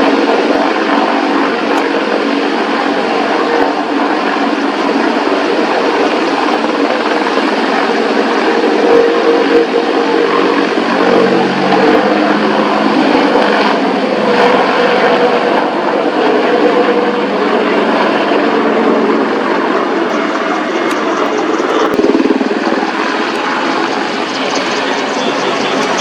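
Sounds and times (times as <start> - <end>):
helicopter flying: 0.0 - 26.0.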